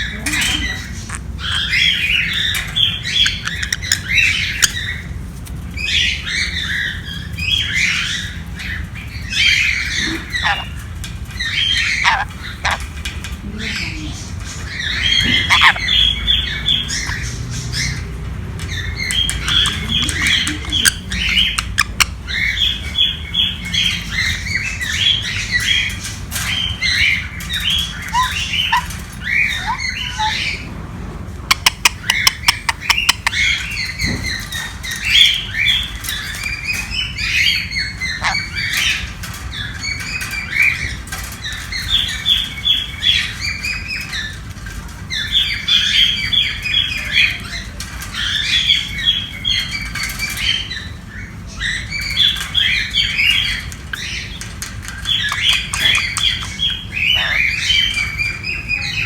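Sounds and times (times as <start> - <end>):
parrot chirping and squawking: 0.0 - 30.7, 31.5 - 59.0.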